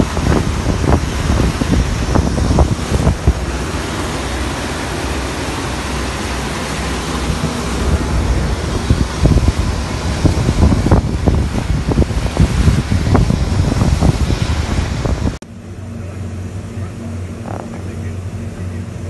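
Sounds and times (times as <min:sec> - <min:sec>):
water rushing along boat hull: 0:00.0 - 0:19.0
wind buffeting microphone: 0:00.0 - 0:19.0.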